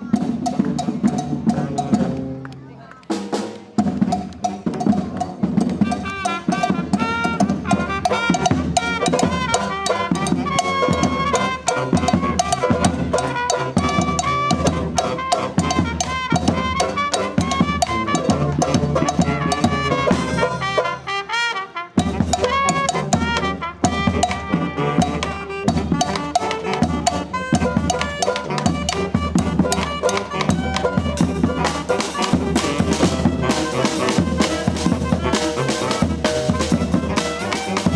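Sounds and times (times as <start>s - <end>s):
brass band playing: 0.0s - 37.9s
drums: 0.0s - 37.9s.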